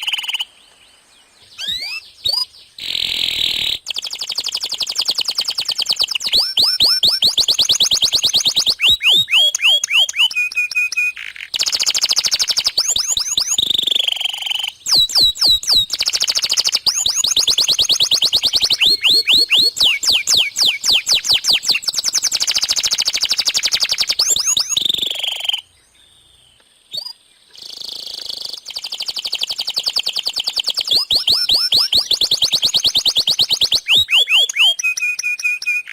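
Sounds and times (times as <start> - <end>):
canary singing: 1.4 - 25.7, 27.0 - 35.9.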